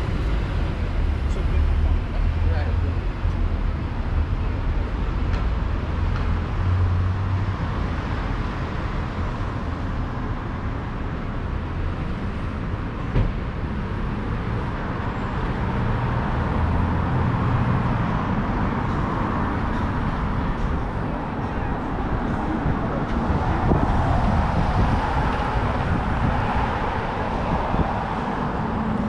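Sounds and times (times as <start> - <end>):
cars driving past: 0.0 - 29.0.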